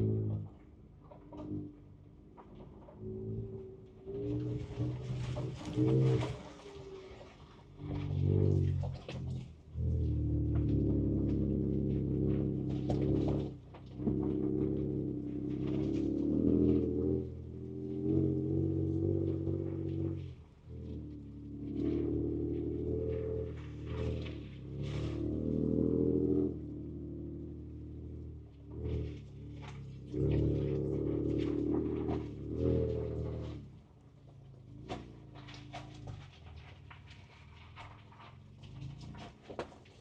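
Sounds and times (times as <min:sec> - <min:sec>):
knocks and rattles over bumps: 0:00.0 - 0:40.0
truck engine drone: 0:00.0 - 0:40.0.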